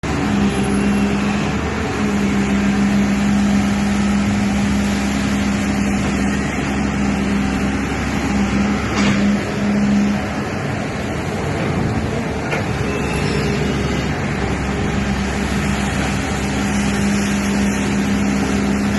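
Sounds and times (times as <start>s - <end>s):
excavator running: 0.0s - 18.9s.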